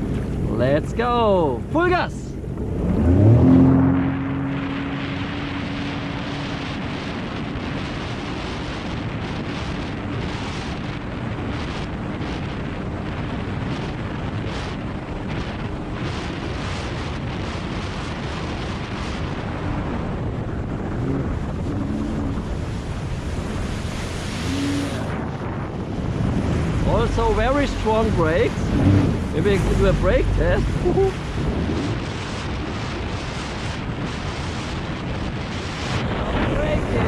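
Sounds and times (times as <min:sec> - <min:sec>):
water rushing: 0:00.0 - 0:16.8, 0:18.6 - 0:37.0
jet ski engine drone: 0:00.0 - 0:37.0
wind buffeting microphone: 0:00.0 - 0:37.0.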